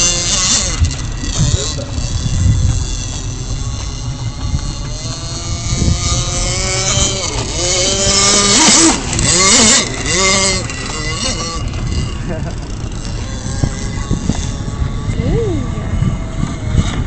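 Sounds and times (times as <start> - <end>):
model boat engine at high revs: 0.0 - 17.0.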